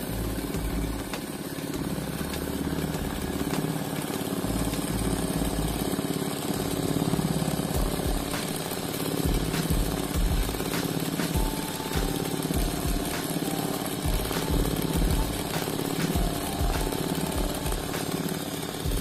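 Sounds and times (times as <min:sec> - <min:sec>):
sewing machine running: 0:00.0 - 0:19.0.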